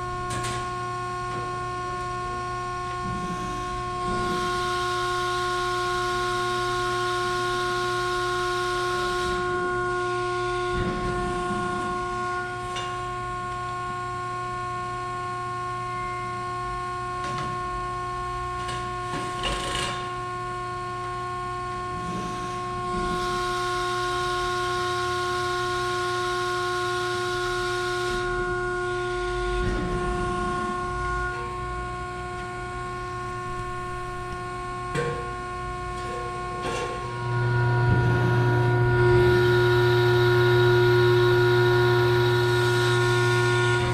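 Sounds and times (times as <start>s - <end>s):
hydraulic system whine: 0.0s - 43.9s.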